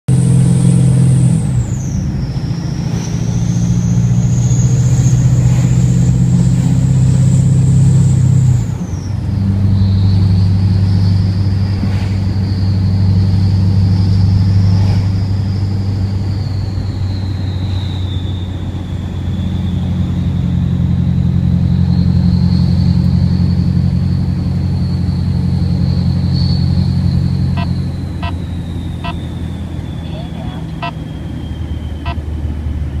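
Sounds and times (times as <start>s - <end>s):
diesel engine rumble: 0.0s - 33.0s
turbocharger whistling: 0.1s - 33.0s.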